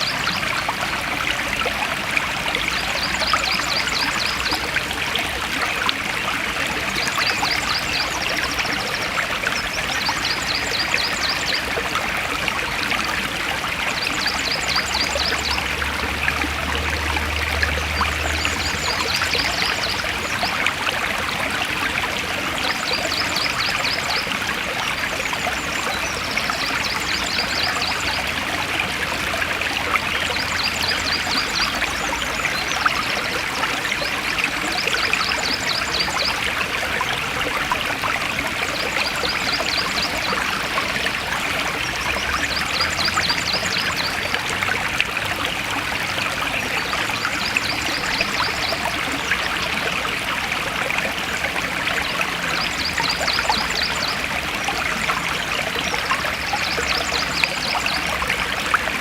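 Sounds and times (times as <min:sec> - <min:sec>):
stream flowing and splashing: 0:00.0 - 0:59.0.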